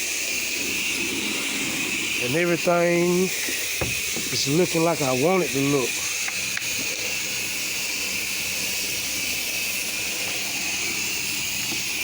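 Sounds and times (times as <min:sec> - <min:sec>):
pressure washer hiss: 0:00.0 - 0:12.0.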